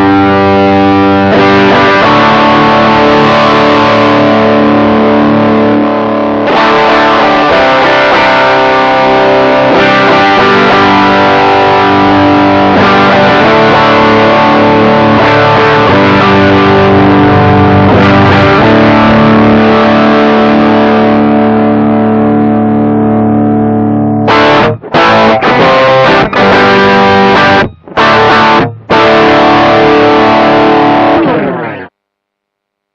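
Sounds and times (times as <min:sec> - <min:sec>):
distorted electric guitar chords: 0:00.0 - 0:32.9.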